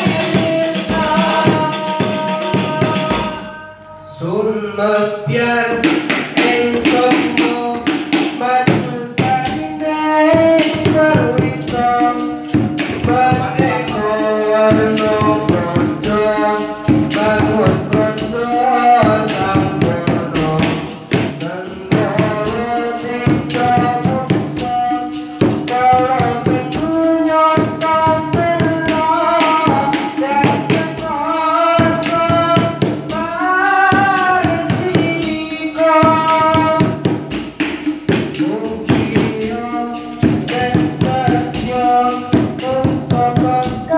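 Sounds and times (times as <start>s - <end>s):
hand-struck frame drums: 0.0s - 3.5s, 5.7s - 43.9s
man singing: 0.0s - 43.9s.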